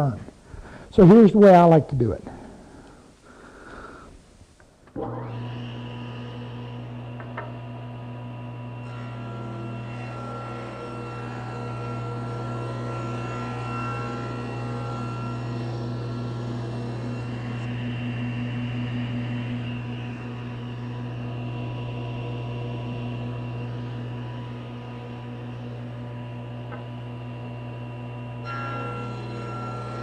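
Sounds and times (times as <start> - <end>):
table saw cutting wood: 5.0 - 30.0.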